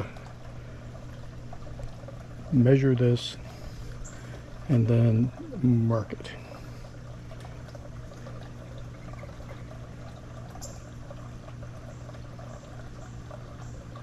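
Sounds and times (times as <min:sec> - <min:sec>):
steady low hum: 0:00.0 - 0:14.0
trickle of running water: 0:00.0 - 0:14.0.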